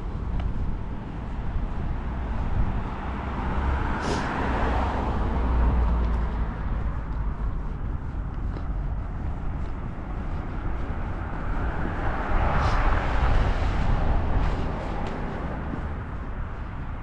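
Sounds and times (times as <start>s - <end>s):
car passing by: 0.0s - 17.0s.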